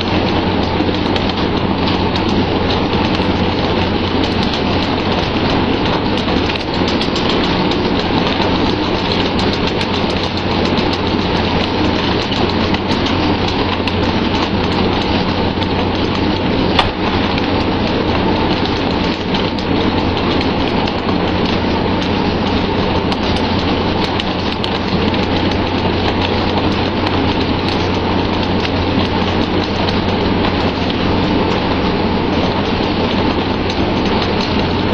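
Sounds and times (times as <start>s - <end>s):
boat engine hum: 0.0s - 34.9s.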